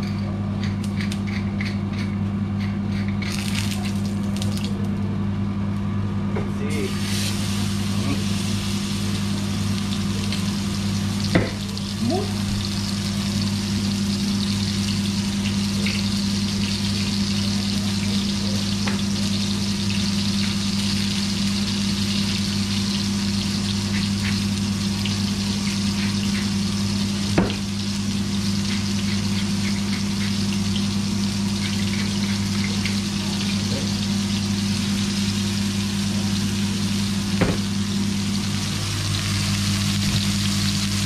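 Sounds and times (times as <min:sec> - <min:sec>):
patty sizzling in a frying pan: 0:06.7 - 0:41.0.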